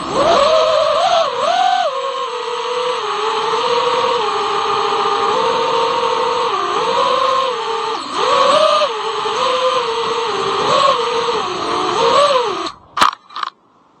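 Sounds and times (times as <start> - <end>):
drone motors whining: 0.0 - 13.5
steady rushing noise: 0.0 - 13.5.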